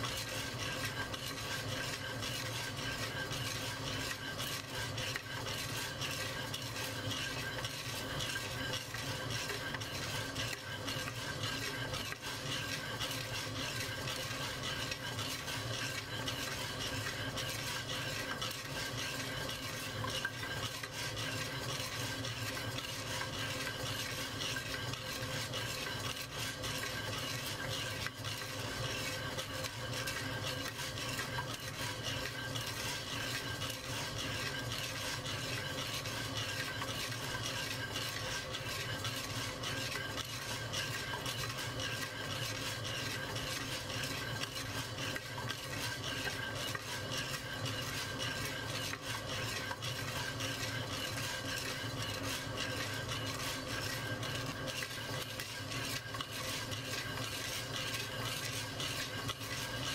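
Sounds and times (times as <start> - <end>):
coffee beans rattling in a pot: 0.0 - 59.9.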